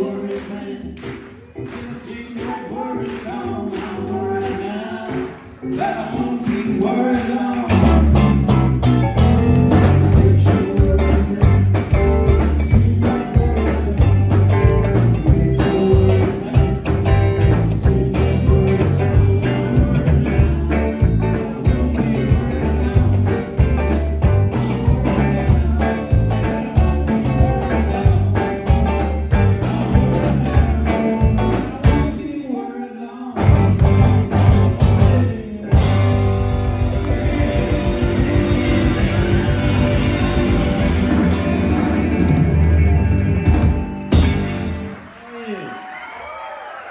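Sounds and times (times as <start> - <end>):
loud rock band playing: 0.0 - 32.4, 33.4 - 45.2.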